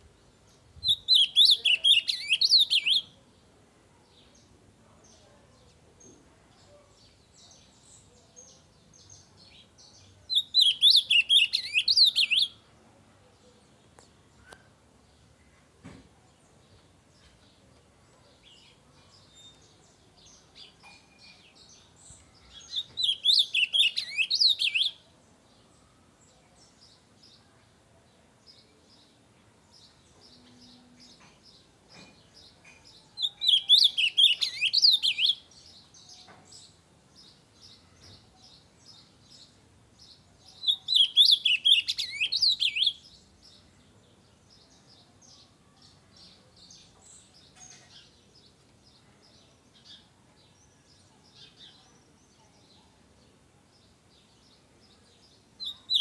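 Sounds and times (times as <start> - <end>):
bird singing warbled phrases: 0.0 - 15.6, 16.3 - 56.0.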